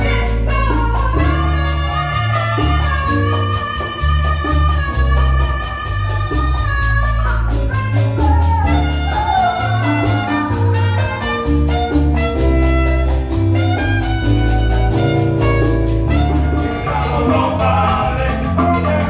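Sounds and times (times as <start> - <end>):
congas: 0.0 - 19.0
latin dance band playing: 0.0 - 19.0
trumpet melody: 0.0 - 19.0.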